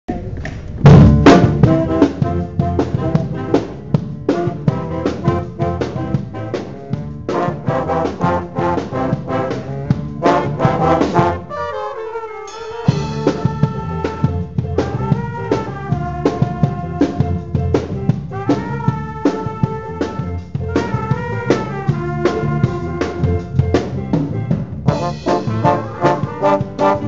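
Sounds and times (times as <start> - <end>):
drum kit: 0.1 - 11.5, 12.2 - 27.0
concert band playing: 0.2 - 27.0
trombone: 0.9 - 27.0.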